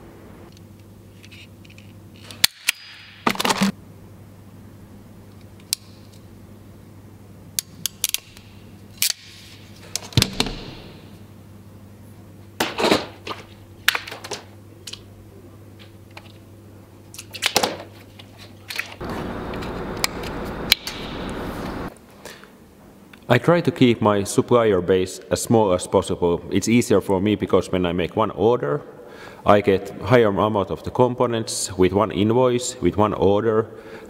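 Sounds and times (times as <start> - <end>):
low steady hum: 3.4 - 34.0.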